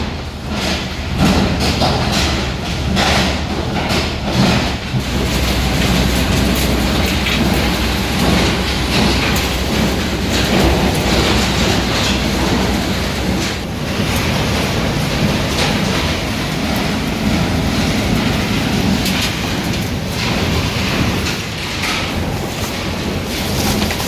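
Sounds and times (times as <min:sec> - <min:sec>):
wire chopping machine rattling: 0:00.0 - 0:24.0.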